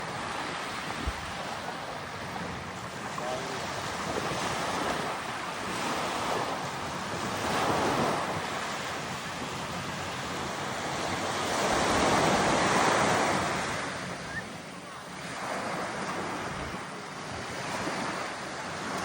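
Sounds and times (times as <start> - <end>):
waves washing in: 0.0 - 19.0.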